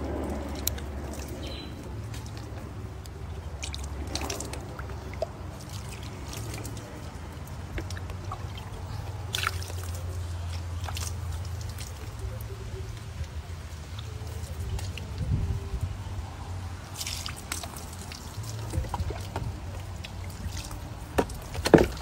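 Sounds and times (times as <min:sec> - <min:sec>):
water splashing and dripping: 0:00.0 - 0:22.0.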